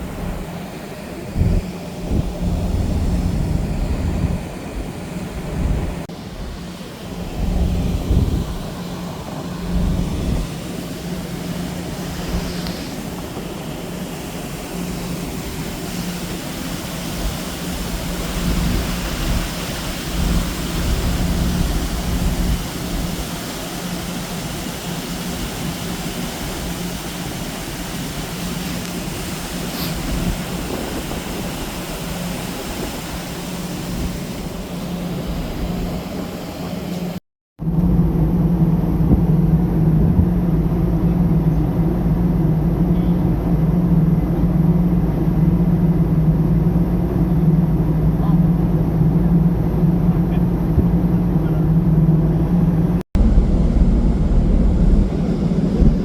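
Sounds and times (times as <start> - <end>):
ferry engines rumbling: 0.0 - 56.0
rushing wind: 0.0 - 56.0
sea noise: 0.0 - 56.0.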